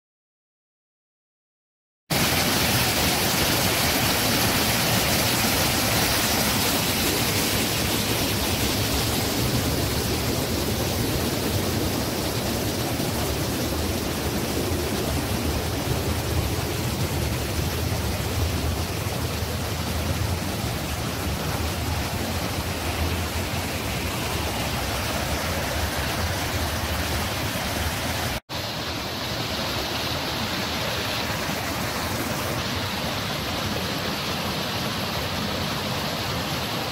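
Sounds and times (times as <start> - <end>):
waterfall and rapids roaring: 2.1 - 36.9.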